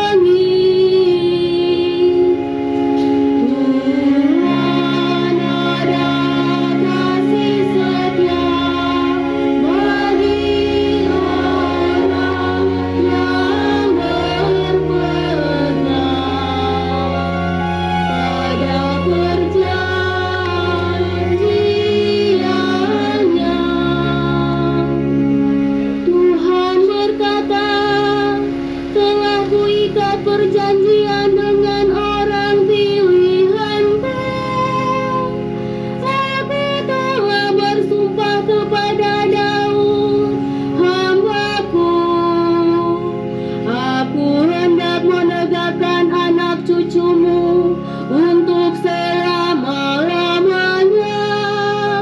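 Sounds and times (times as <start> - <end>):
church choir singing: 0.0 - 52.0
long held low accompaniment notes: 0.0 - 52.0
sustained instrumental chords: 0.0 - 52.0.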